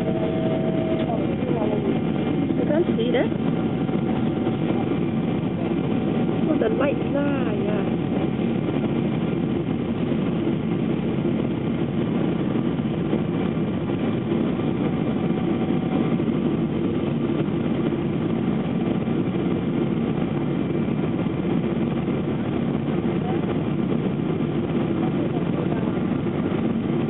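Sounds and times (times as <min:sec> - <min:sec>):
airliner cabin drone: 0:00.0 - 0:27.0.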